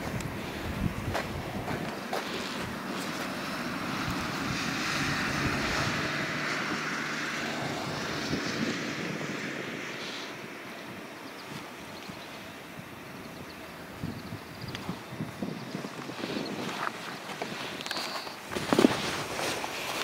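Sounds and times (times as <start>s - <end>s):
outdoor rushing noise: 0.0s - 20.0s.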